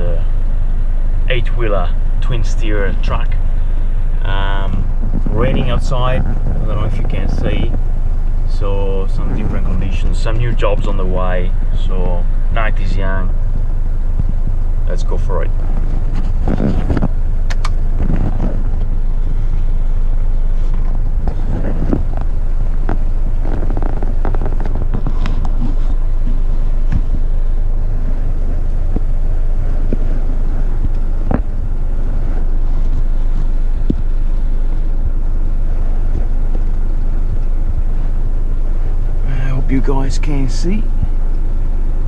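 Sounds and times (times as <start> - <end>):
truck diesel engine running: 0.0 - 42.0.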